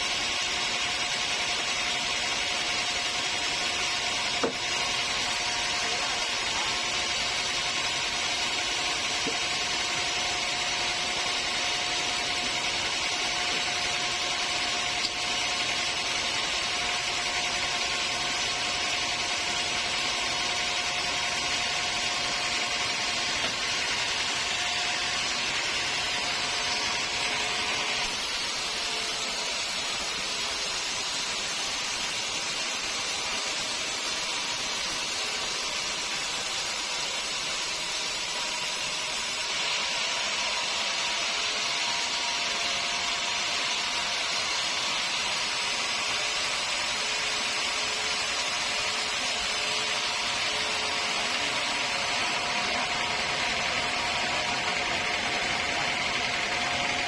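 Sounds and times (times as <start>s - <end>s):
sawmill machinery hissing: 0.0s - 57.0s.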